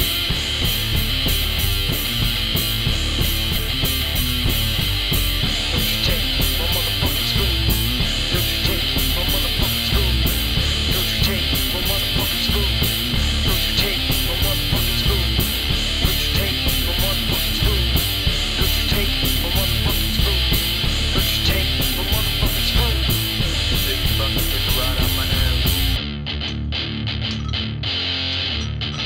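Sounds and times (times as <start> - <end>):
drum kit beat: 0.0 - 26.0
electric guitars: 0.0 - 29.0.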